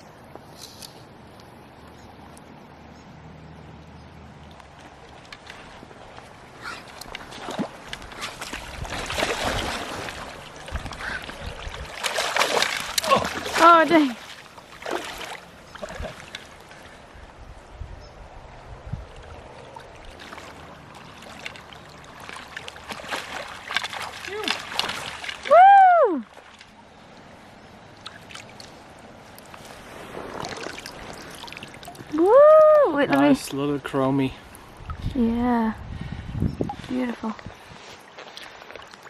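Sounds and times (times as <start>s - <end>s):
water splashing and sloshing: 0.0s - 39.0s.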